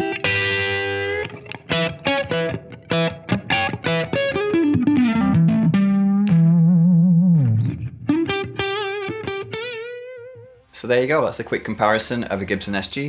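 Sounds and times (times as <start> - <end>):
overdriven electric guitar lead: 0.0 - 10.6.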